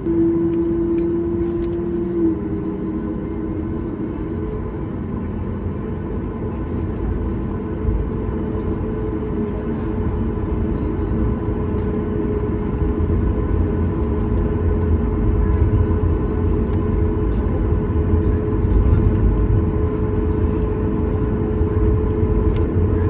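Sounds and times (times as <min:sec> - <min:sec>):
jet engines rumbling and whining: 0:00.0 - 0:23.0.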